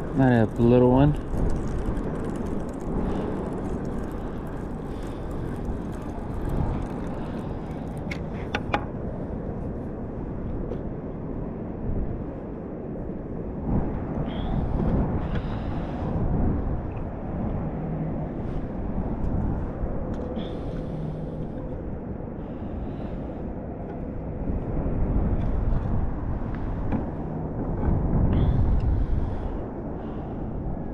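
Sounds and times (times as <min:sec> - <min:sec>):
wind: 0:00.0 - 0:30.9.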